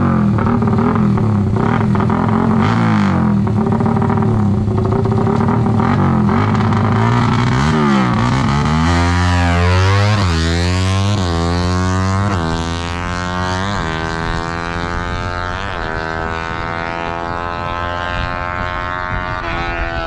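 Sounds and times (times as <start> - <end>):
motorcycle engine revving through gears: 0.0 - 20.0.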